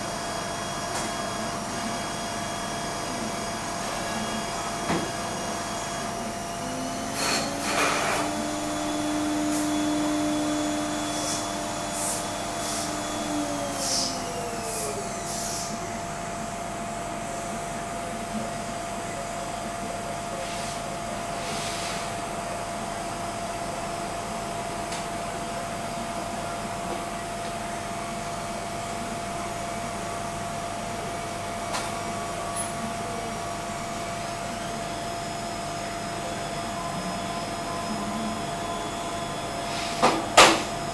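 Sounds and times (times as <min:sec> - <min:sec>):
lower machine whine: 0:00.0 - 0:18.5, 0:23.5 - 0:40.0
machine hum and coolant hiss: 0:00.0 - 0:40.9.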